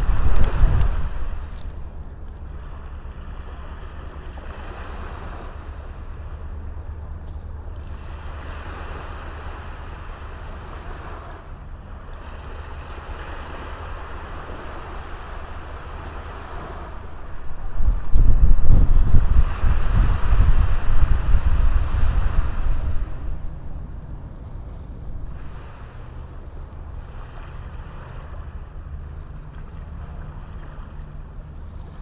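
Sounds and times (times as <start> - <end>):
low wind rumble on microphone: 0.0 - 32.0
sea waves washing onto beach: 0.0 - 32.0.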